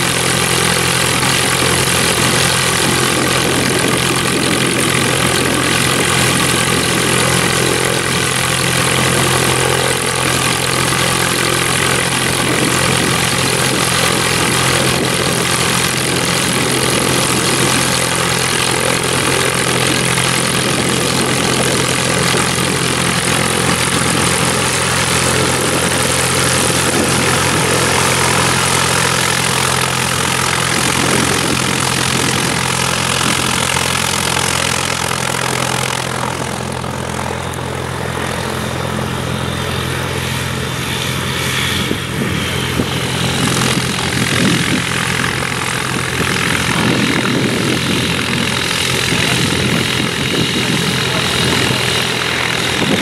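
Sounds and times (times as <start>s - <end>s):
light aircraft engine droning: 0.0s - 53.0s.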